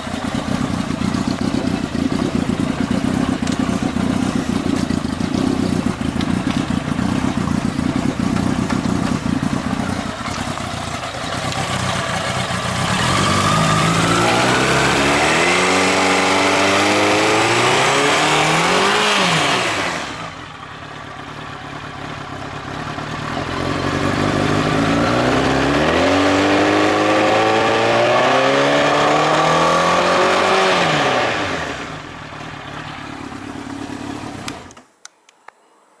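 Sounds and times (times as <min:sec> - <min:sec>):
motorcycle engine idling and revving: 0:00.0 - 0:34.8.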